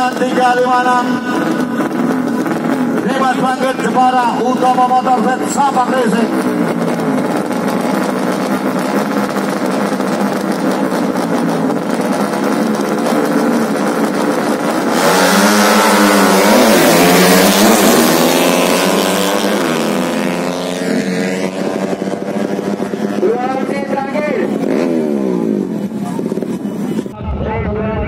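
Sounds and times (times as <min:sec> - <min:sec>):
racing motorcycle engines revving: 0:00.0 - 0:28.0.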